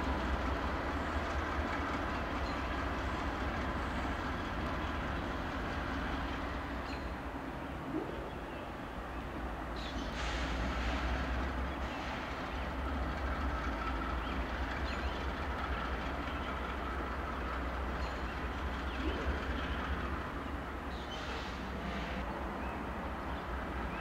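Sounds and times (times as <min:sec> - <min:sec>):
train wheels and cars rolling: 0:00.0 - 0:07.6, 0:09.8 - 0:24.0
locomotive engine rumble: 0:00.0 - 0:24.0.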